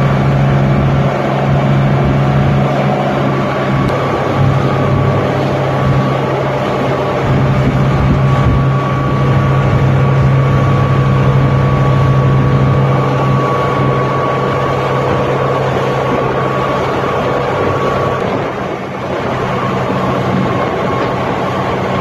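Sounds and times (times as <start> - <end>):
motorboat engine drone: 0.0 - 22.0
water rushing in wake: 0.0 - 22.0.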